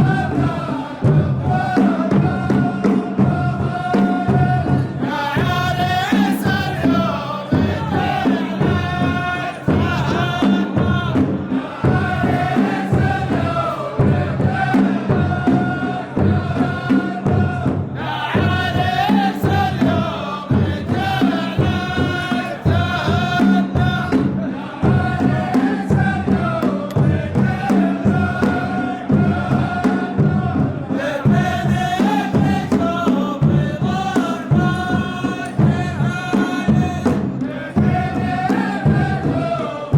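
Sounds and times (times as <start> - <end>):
drum beat: 0.0 - 39.9
men chanting in unison: 0.0 - 39.9.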